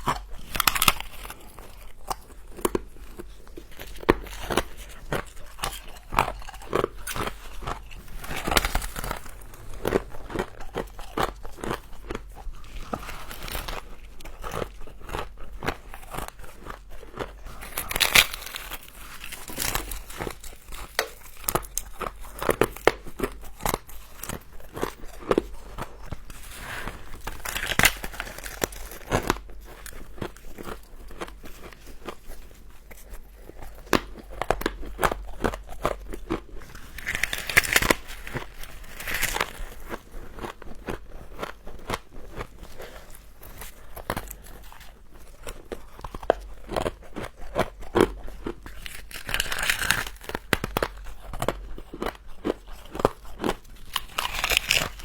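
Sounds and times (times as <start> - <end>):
crunching of frost being chewed: 0.0 - 55.0.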